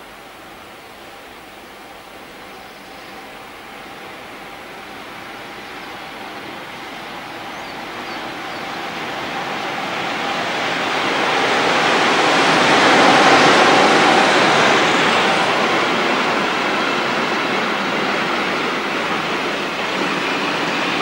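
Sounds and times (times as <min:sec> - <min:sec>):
freight train passing: 0:00.0 - 0:21.0.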